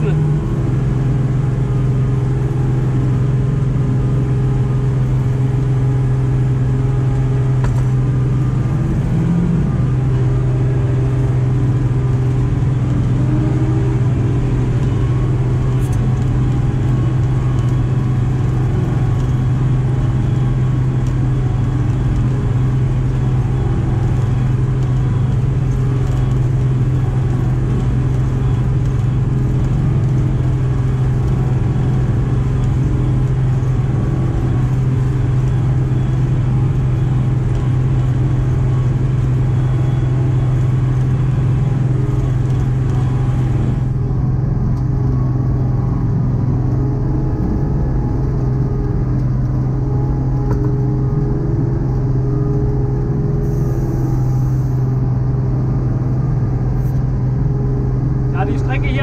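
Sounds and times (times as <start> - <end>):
farm machinery engine droning: 0.0 - 59.0.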